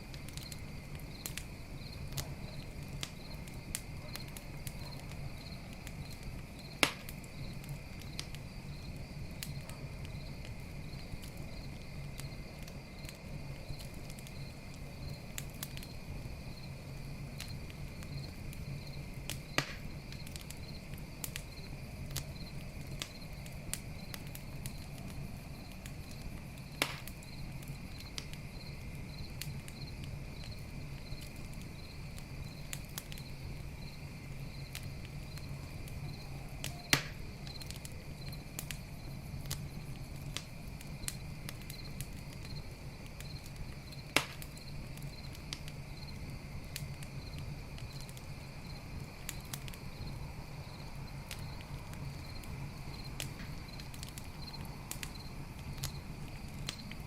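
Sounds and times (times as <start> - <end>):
campfire crackling and popping: 0.0 - 57.0
crickets trilling: 0.0 - 57.0.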